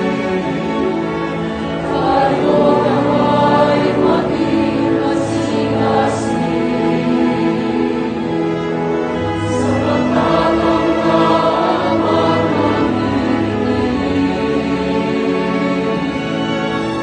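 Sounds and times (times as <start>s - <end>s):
choir singing a hymn: 0.0s - 17.0s
orchestral accompaniment: 0.0s - 17.0s.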